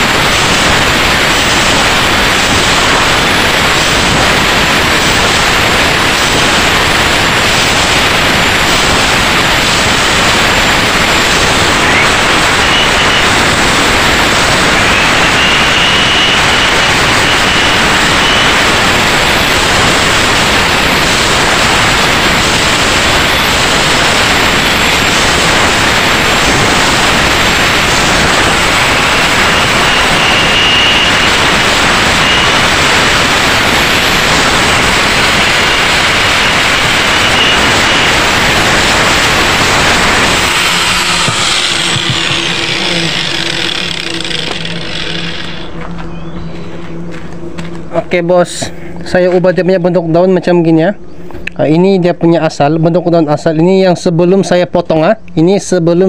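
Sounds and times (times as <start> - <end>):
angle grinder grinding metal: 0.0 - 46.0.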